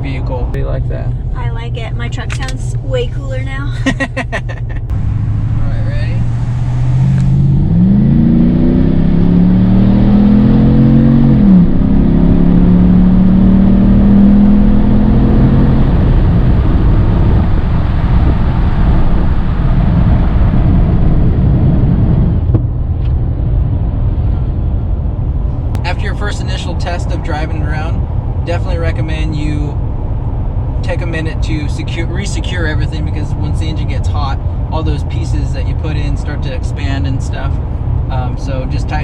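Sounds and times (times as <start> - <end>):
road and wind rumble: 0.0 - 39.0
truck engine accelerating: 0.0 - 39.0.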